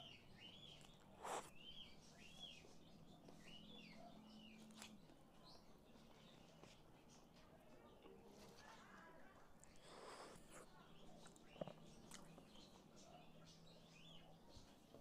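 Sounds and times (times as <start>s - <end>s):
small bird chirping: 0.0s - 8.2s, 9.6s - 15.0s.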